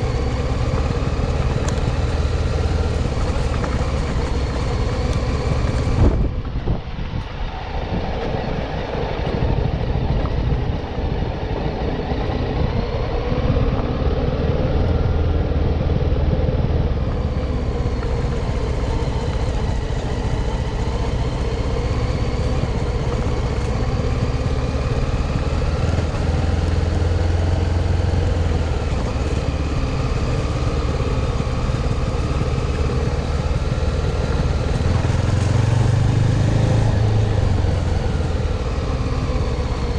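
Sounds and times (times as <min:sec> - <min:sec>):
motorcycle engine revving: 0:00.0 - 0:06.4, 0:11.6 - 0:39.9.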